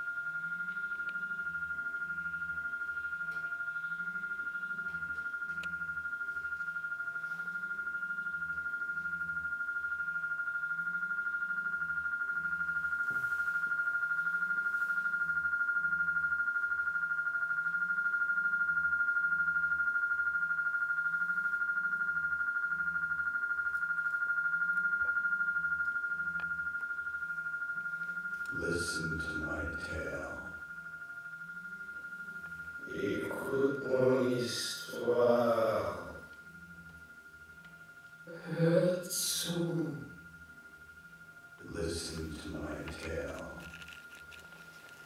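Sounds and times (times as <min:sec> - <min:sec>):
fluttering high electronic tone: 0:00.0 - 0:45.0
low wavering pulse: 0:00.0 - 0:45.0.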